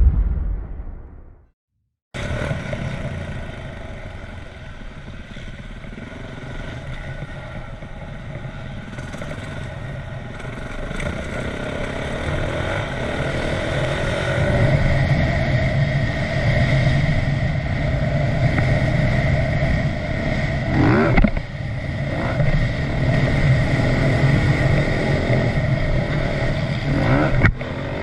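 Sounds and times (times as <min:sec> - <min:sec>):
motocross bike engine: 0:02.2 - 0:28.0.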